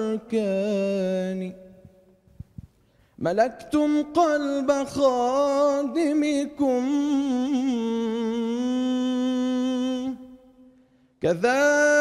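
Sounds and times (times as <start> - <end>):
man singing unaccompanied: 0.0 - 1.8, 3.2 - 10.4, 11.2 - 12.0.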